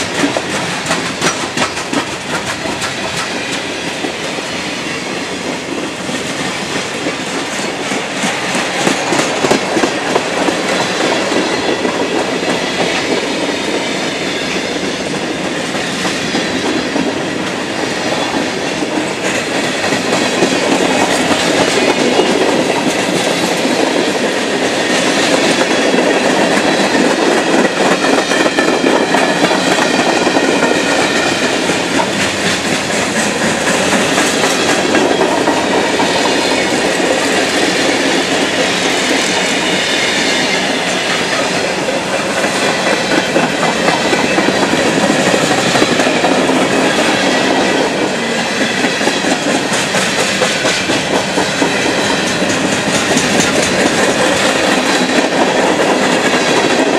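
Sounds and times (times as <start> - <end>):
train wheels clicking over rails: 0.0 - 56.9.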